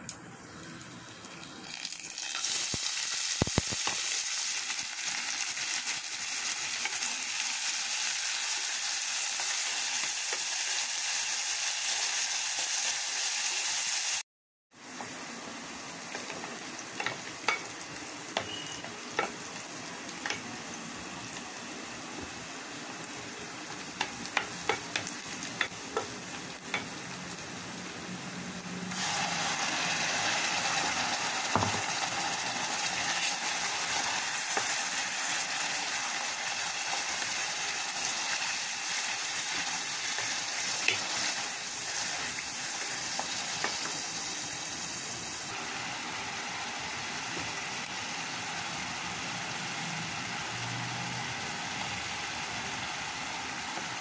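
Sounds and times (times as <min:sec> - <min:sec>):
onions sizzling in hot oil: 0:00.4 - 0:14.2, 0:14.8 - 0:54.0.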